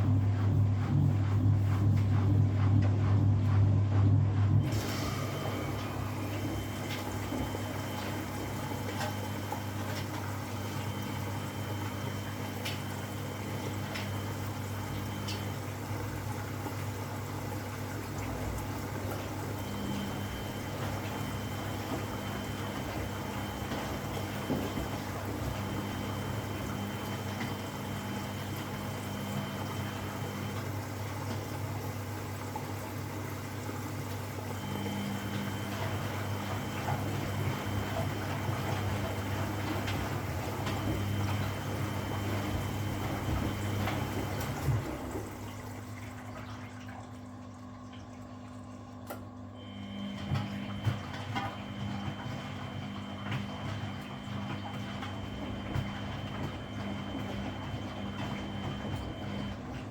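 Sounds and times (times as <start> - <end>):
washing machine low hum: 0.0 - 59.9.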